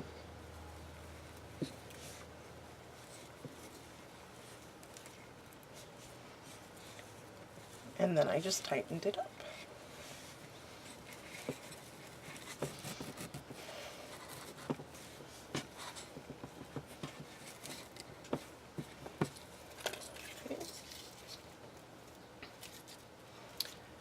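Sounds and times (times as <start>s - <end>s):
ribbon rustling: 0.5s - 23.8s.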